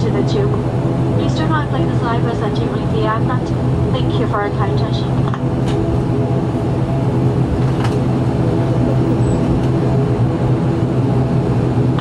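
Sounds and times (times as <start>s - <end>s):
deep hum: 0.0s - 12.0s
turboprop engine drone: 0.0s - 12.0s.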